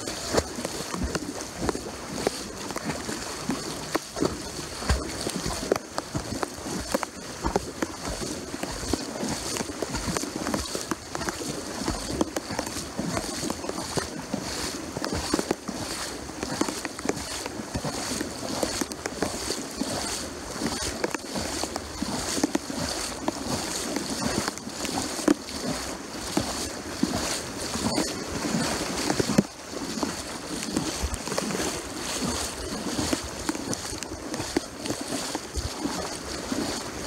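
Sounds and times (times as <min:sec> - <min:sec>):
wading through water splashing: 0:00.0 - 0:37.0.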